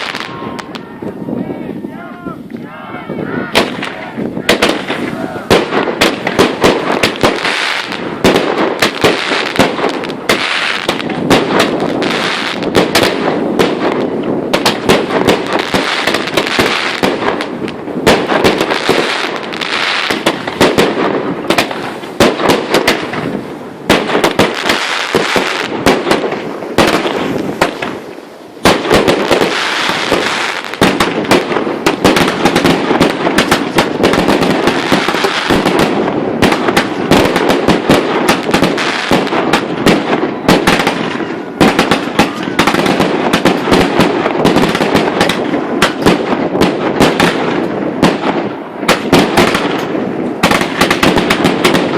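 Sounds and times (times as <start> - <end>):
fireworks bursts and crackle: 0.0 - 51.9.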